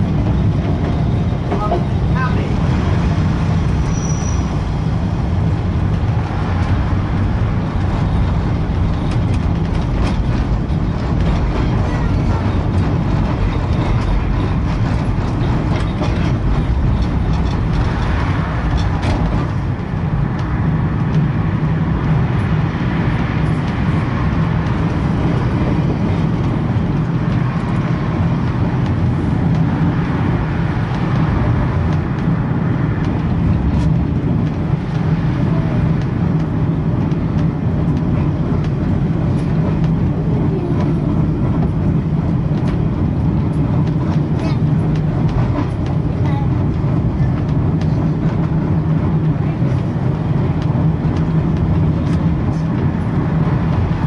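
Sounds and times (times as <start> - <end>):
tram wheels rumbling on rail: 0.0 - 54.0.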